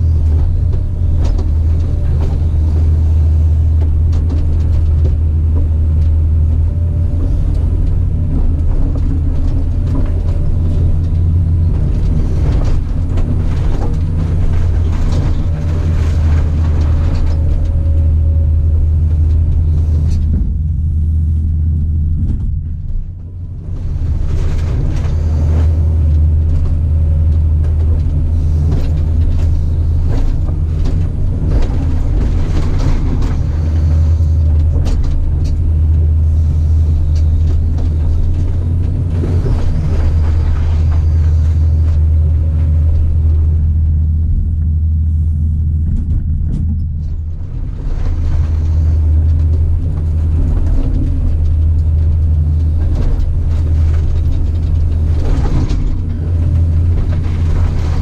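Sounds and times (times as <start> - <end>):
machine clanking and clattering: 0.0 - 21.0, 21.9 - 58.0
diesel engine rumbling: 0.0 - 58.0.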